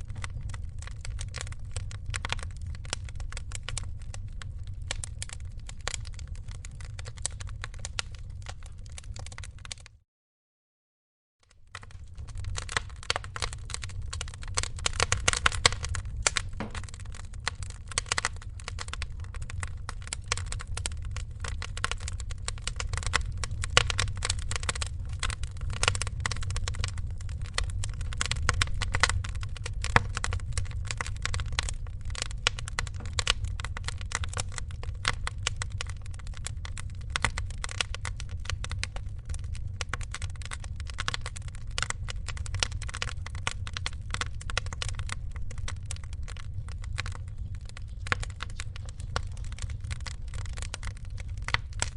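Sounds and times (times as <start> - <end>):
wood fire crackling: 0.0 - 10.0, 11.5 - 51.9.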